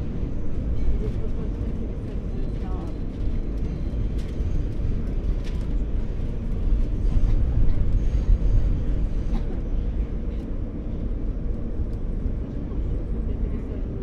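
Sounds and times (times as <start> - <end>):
subway car rumbling on track: 0.0 - 14.0.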